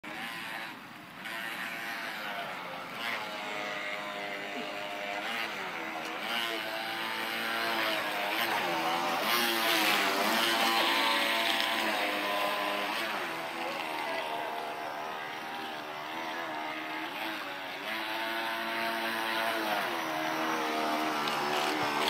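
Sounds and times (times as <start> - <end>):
model speedboat motor whine: 0.0 - 22.0.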